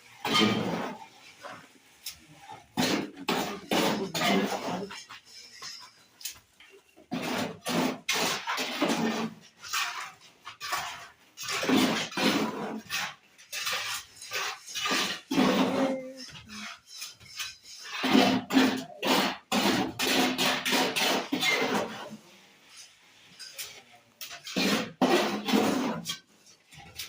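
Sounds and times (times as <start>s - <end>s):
metal trowel scraping plaster: 0.2s - 27.0s.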